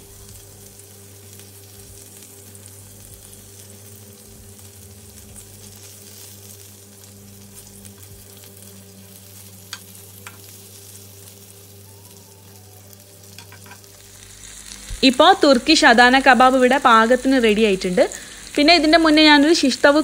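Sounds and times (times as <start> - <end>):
steady low hum: 0.0 - 19.5
meat sizzling in a pan: 0.0 - 20.0.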